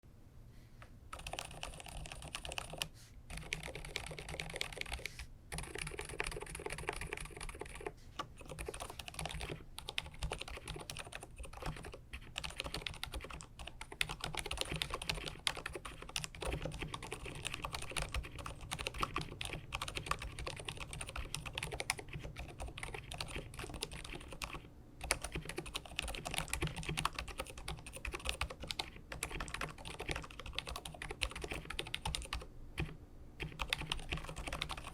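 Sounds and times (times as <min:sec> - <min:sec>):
mechanical keyboard typing: 0:01.1 - 0:34.9.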